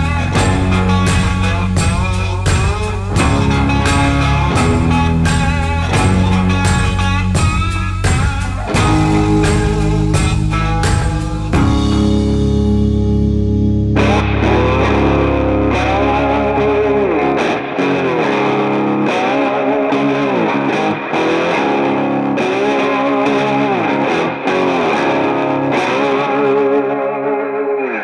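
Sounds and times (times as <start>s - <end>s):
rock music with distorted guitar: 0.0s - 28.0s.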